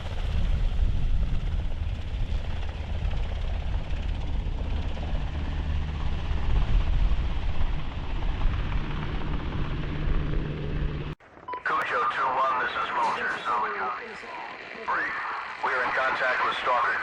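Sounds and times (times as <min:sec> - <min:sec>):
helicopter rotor and turbine: 0:00.0 - 0:17.0.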